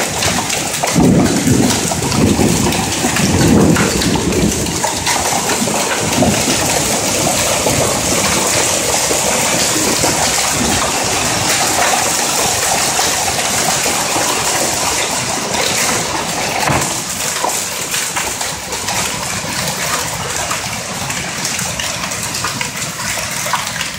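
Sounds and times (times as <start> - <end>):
hailstones pelting down: 0.0 - 23.9
heavy rain: 0.0 - 23.9.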